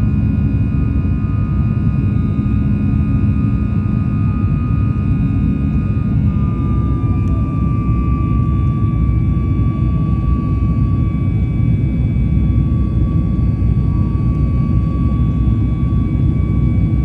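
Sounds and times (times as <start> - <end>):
high engine whine: 0.0 - 17.0
jet engine rumble in cabin: 0.0 - 17.0.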